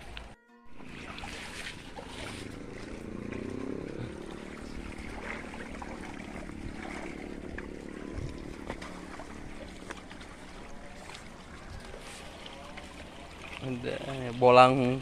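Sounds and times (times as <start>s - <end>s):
small sharp splashes: 0.0s - 14.6s
water trickling and sloshing: 0.0s - 15.0s.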